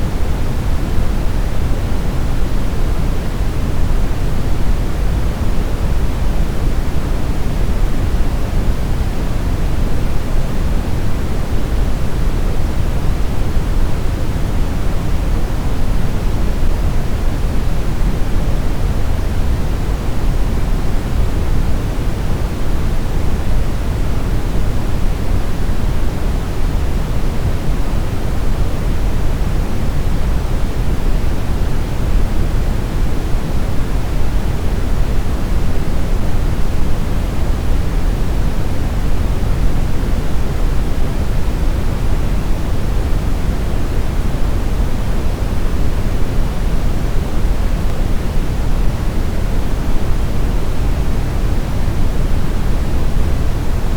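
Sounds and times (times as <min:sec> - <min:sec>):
brown noise rumbling hiss: 0:00.0 - 0:53.9.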